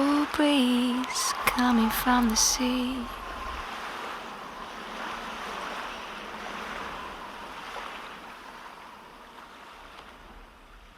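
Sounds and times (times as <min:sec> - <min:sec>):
ocean waves rushing: 0:00.0 - 0:10.9.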